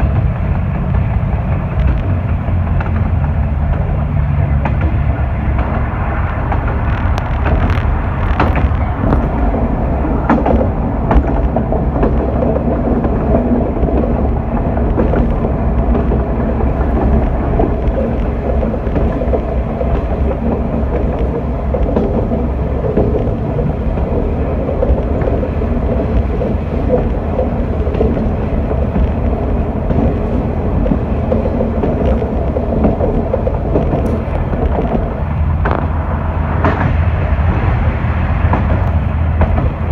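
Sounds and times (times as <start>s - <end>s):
railcar rumble on rails: 0.0s - 39.9s.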